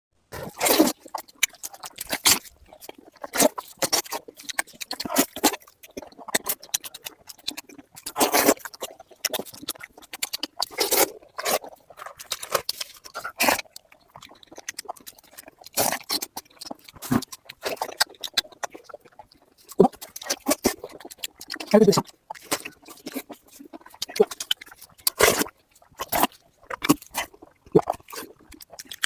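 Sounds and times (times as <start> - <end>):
chewing and wet mouth sounds: 0.3 - 29.0.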